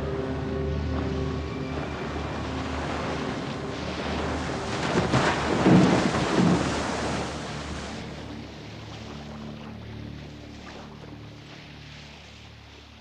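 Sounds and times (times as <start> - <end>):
rushing churning water: 0.0 - 13.0
water crashing and splashing: 0.0 - 13.0.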